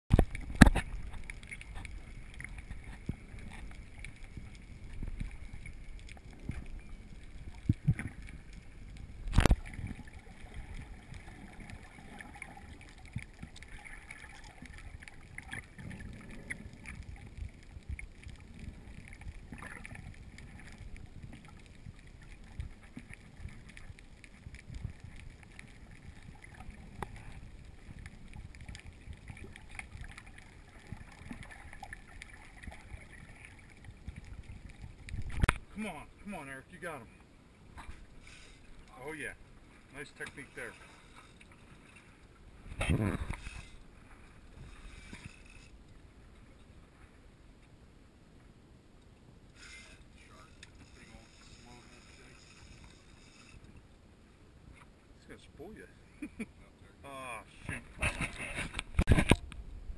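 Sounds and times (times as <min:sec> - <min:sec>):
muffled underwater rumble: 0:00.1 - 0:36.2, 0:37.6 - 0:47.9, 0:57.4 - 0:59.9.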